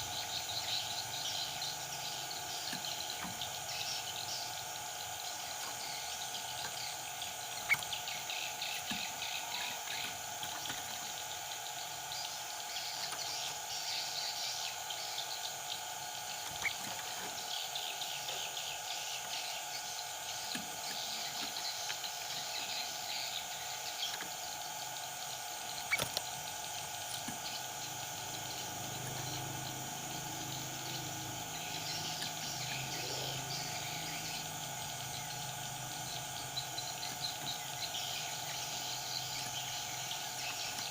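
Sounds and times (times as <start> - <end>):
birds chirping and calling: 0.0 - 40.9
steady background hum: 0.0 - 40.9.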